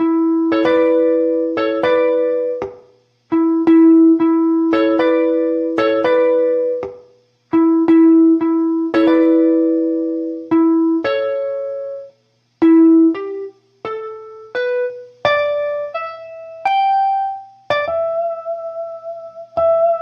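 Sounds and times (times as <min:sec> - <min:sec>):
clean electric guitar blues lick: 0:00.0 - 0:20.0.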